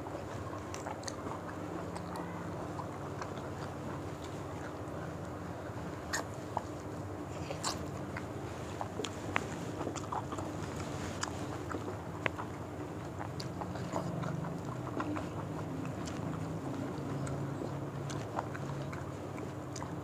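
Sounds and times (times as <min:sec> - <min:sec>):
people chewing: 0:00.0 - 0:20.0
steady low hum: 0:00.0 - 0:20.0.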